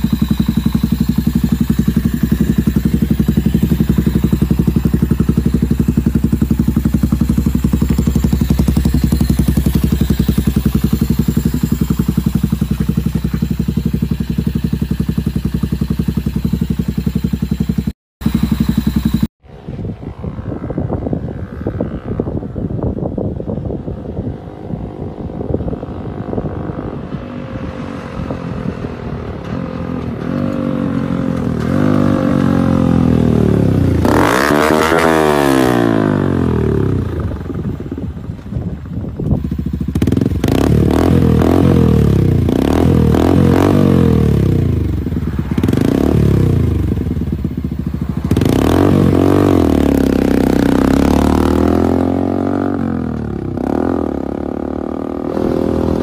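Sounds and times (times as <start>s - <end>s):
go-kart engine revving: 0.0s - 22.5s, 25.4s - 56.0s.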